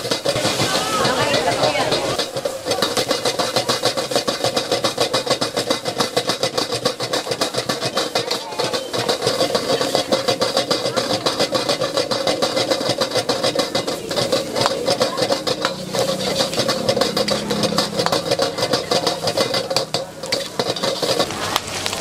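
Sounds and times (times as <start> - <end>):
gas burner roaring: 0.0 - 22.0
utensils clattering on wok: 0.0 - 22.0.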